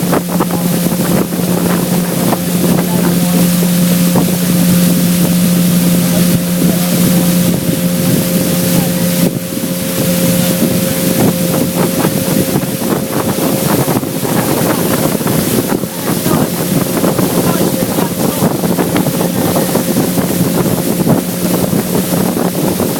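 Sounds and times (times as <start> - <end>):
outboard motor droning: 0.0 - 22.9
wind buffeting microphone: 0.0 - 22.9.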